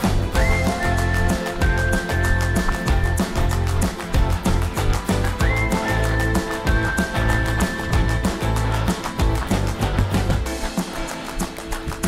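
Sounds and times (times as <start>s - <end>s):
music with heavy bass beat: 0.0s - 12.0s.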